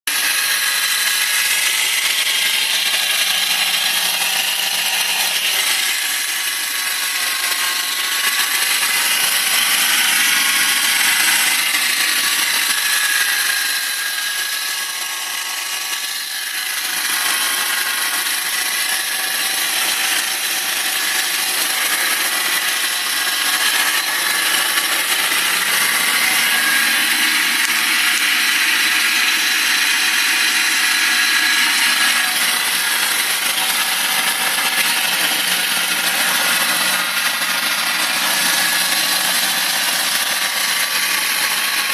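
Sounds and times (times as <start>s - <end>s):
engine high-pitched whirring: 0.1s - 41.9s.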